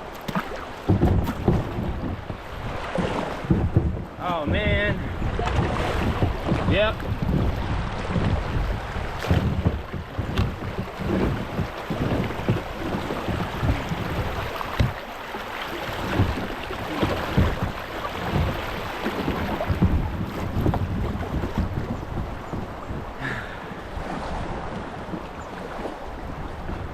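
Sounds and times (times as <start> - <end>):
wind buffeting microphone: 0.0 - 15.1, 15.7 - 26.9
water splashing against kayak: 0.0 - 26.9.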